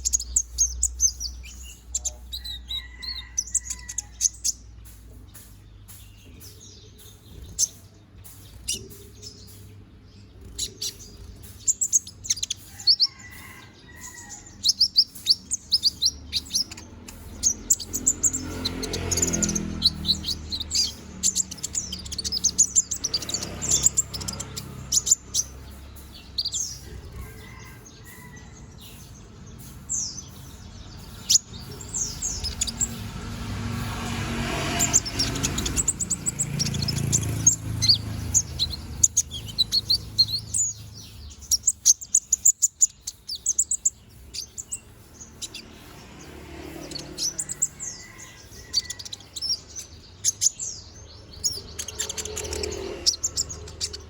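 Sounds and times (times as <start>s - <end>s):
sunbird singing rapid chirps: 0.0s - 54.0s.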